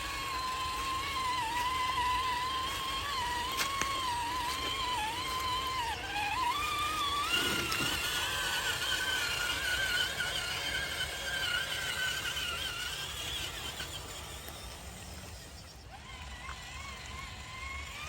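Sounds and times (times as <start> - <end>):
rc car motor whining: 0.0 - 18.0.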